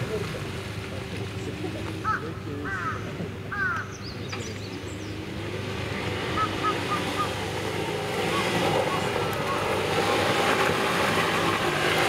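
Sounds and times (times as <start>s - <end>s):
vehicle engine running: 0.0s - 12.0s
birds calling: 1.3s - 12.0s.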